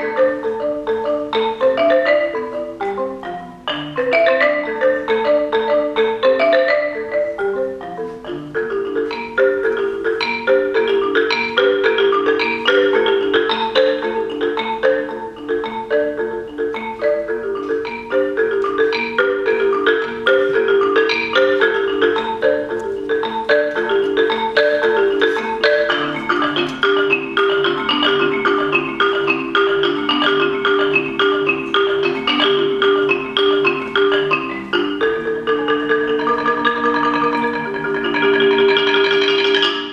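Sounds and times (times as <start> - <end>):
marimba played with mallets: 0.0 - 39.9.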